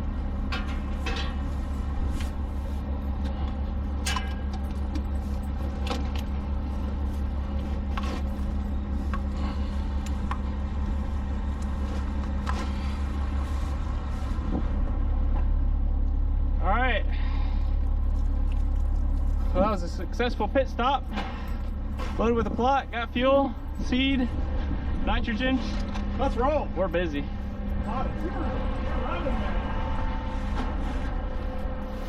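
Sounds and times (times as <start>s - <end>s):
large engine idling: 0.0s - 32.0s
steady hum: 0.0s - 32.0s.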